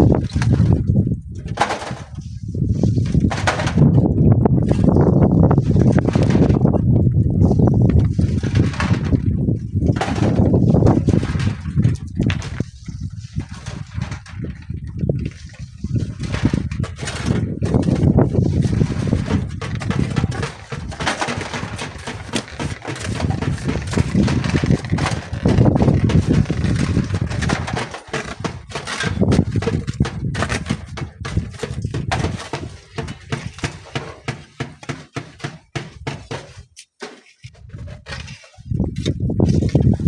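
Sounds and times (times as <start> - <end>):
wind buffeting microphone: 0.0 - 34.5, 37.4 - 40.0.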